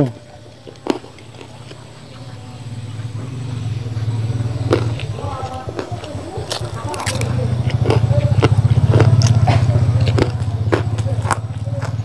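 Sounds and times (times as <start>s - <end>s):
motor vehicle engine drone: 0.0s - 12.0s.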